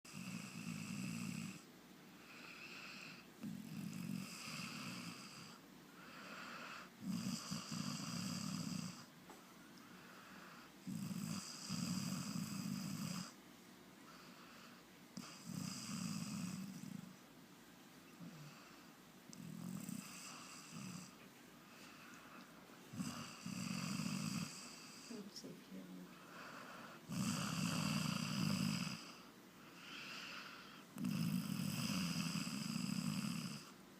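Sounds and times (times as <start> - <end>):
pet snoring: 0.1 - 9.1, 10.1 - 13.4, 14.1 - 17.2, 18.2 - 21.2, 21.8 - 25.5, 26.1 - 33.8.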